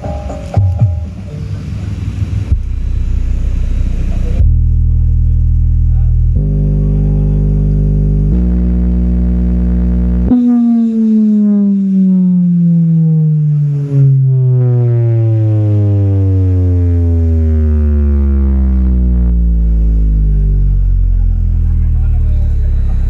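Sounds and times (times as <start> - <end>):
buzzy bass sweep tone: 2.0 - 23.0.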